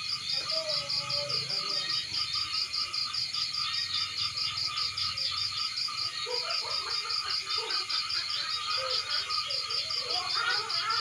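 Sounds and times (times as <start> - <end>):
high pulsing insect trill: 0.0 - 11.0
lower pulsing frog chorus: 0.0 - 11.0
short scattered calls: 0.0 - 11.0.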